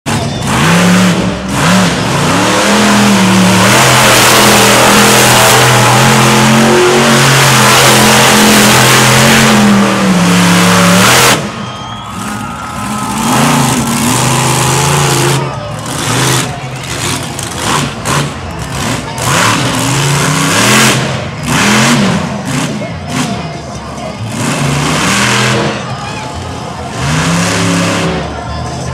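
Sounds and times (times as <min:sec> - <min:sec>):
truck engine revving: 0:00.1 - 0:28.9.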